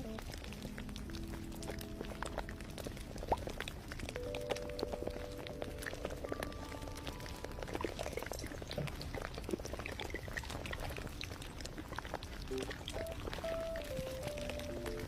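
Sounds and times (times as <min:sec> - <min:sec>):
soft background music: 0:00.0 - 0:11.5, 0:12.4 - 0:15.0.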